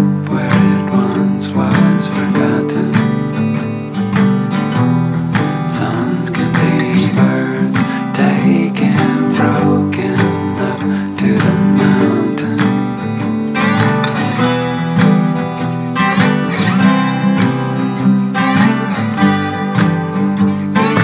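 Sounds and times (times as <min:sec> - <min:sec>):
instrumental folk music with guitar: 0:00.0 - 0:21.0.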